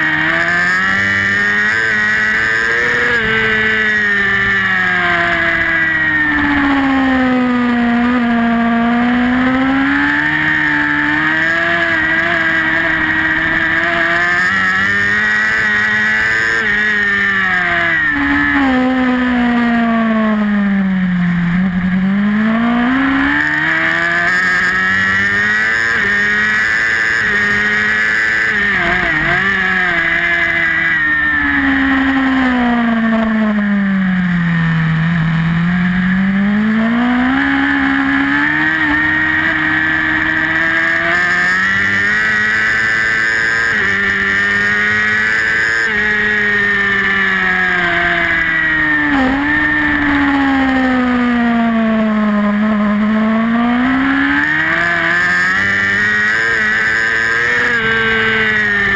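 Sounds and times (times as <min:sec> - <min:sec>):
motorbike engine revving: 0:00.0 - 0:58.9.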